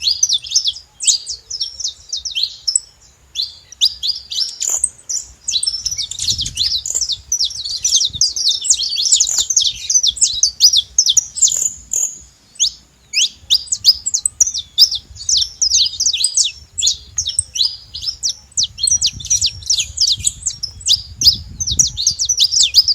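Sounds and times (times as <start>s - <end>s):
finch singing: 0.0s - 22.9s.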